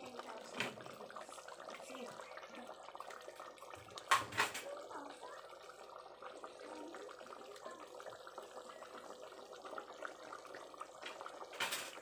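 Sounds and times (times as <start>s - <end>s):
sauce bubbling and popping: 0.0s - 12.0s.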